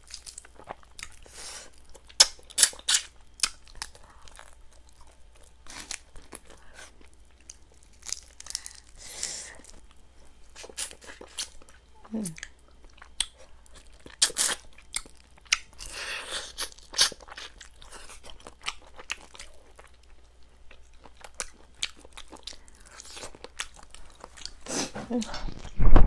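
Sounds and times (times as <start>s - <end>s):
chewing and biting chicken: 0.0s - 24.7s.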